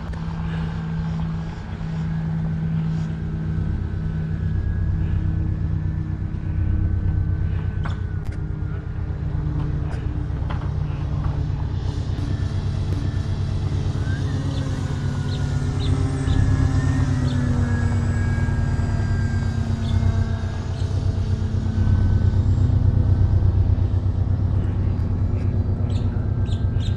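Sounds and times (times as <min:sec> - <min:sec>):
model plane motors whining: 0:00.0 - 0:26.9
steady low rumble: 0:00.0 - 0:26.9.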